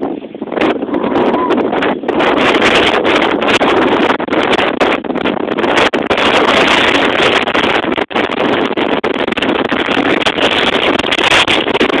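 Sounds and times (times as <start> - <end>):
strong wind on microphone: 0.0 - 12.0.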